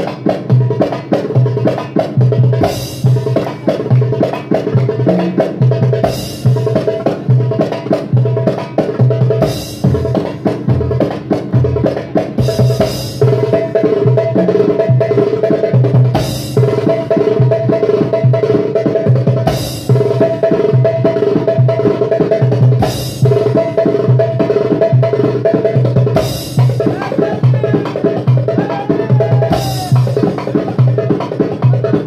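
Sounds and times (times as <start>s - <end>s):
goblet drum fast rhythm: 0.0s - 32.0s.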